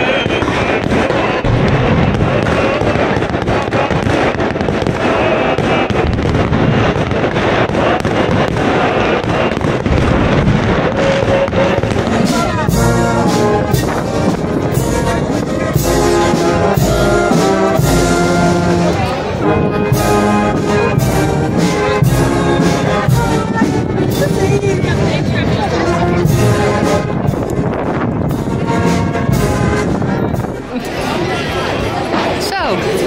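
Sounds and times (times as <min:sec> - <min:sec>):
brass band playing chords: 0:00.0 - 0:33.0
fireworks bursting and crackling: 0:00.0 - 0:33.0.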